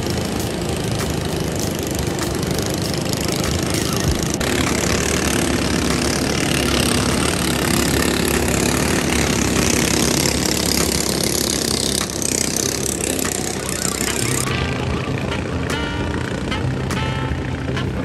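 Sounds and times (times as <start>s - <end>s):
motorboat engine running: 0.0s - 18.0s.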